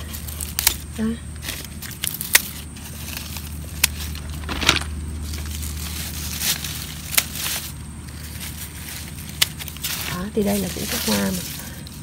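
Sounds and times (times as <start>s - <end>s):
leaves and stems rustling: 0.0s - 12.0s
garden shears snipping: 0.1s - 12.0s.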